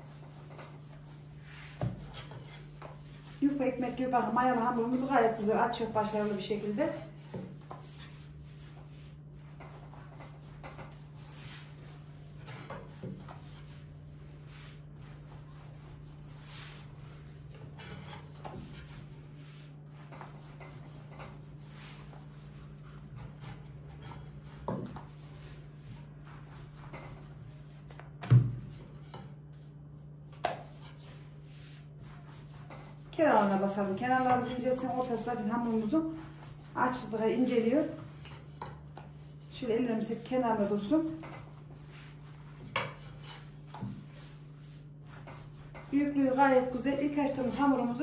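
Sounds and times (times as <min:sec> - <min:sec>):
rolling pin rubbing dough: 0:00.0 - 0:48.0.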